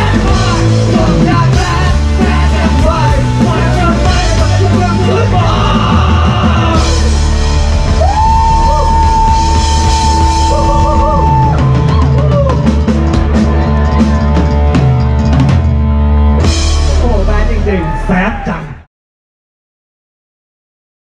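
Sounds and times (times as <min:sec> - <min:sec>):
live rock band playing: 0:00.0 - 0:18.4.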